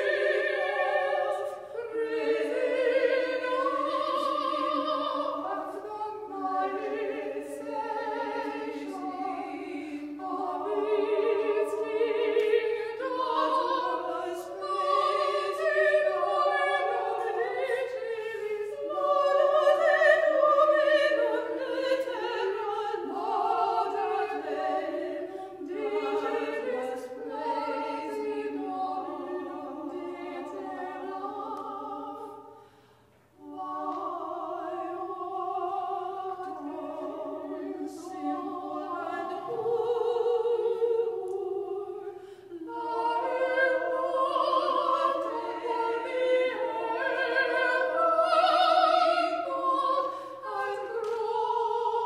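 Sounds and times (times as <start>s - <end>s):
choir singing sacred piece: 0.0s - 52.0s.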